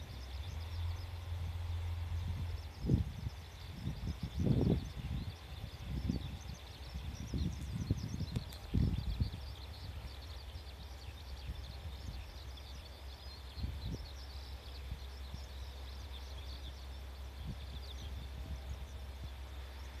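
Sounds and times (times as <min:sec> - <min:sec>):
low outdoor rumble: 0:00.0 - 0:20.0
small birds chirping: 0:00.0 - 0:20.0.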